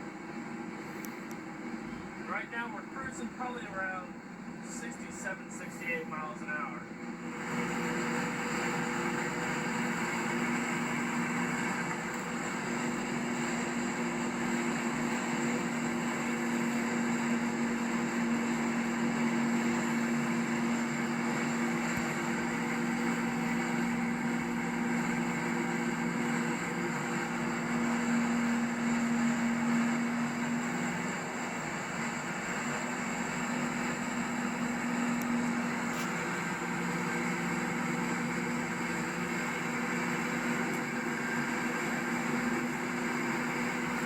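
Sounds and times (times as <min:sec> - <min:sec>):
car engine drone: 0:00.0 - 0:44.0.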